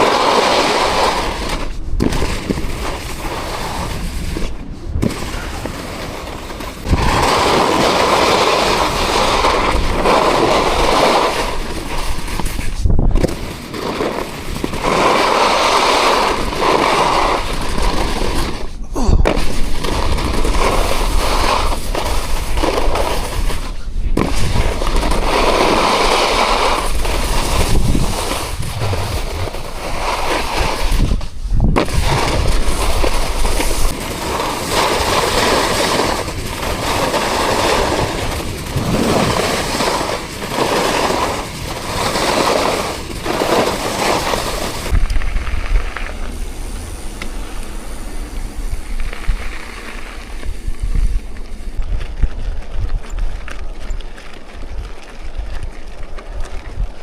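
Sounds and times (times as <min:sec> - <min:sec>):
gusty wind buffeting microphone: 0:00.0 - 0:57.0.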